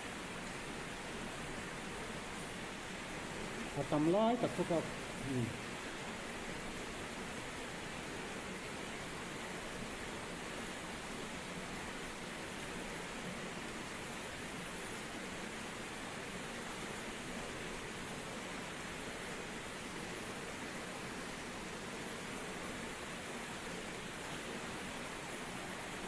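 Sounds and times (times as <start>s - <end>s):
water rushing in a cave: 0.0s - 26.0s.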